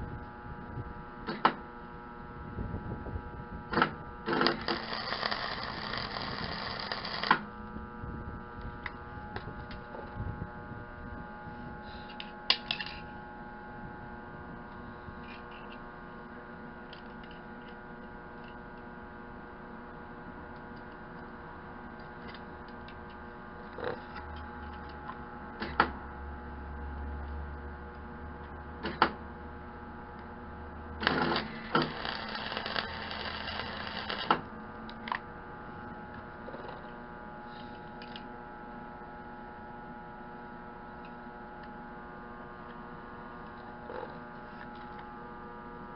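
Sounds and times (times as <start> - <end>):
welder electrical hum: 0.0 - 45.9.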